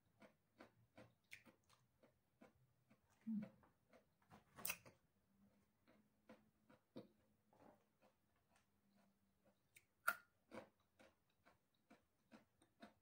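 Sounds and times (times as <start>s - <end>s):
crunching while eating: 0.0s - 13.0s.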